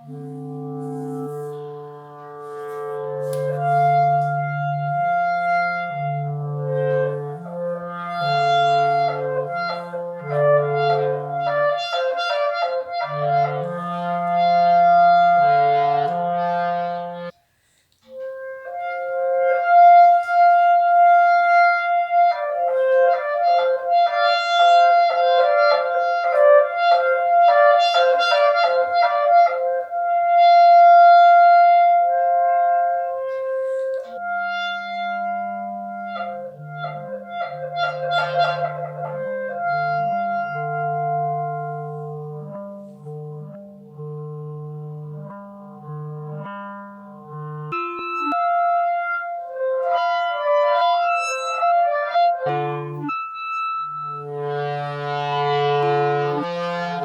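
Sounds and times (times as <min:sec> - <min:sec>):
layered clarinet: 0:00.0 - 0:57.0.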